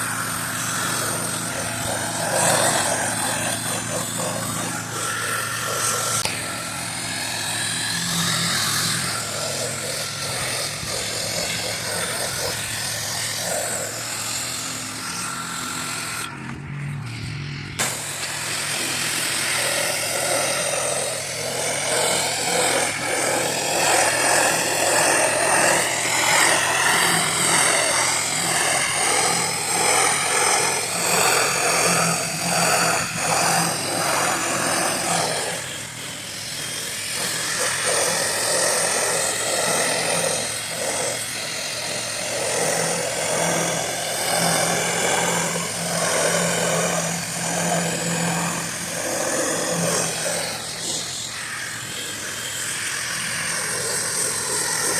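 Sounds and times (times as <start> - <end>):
water jet spraying on siding: 0.0 - 16.2, 17.8 - 54.9
pressure washer hum: 0.0 - 54.9.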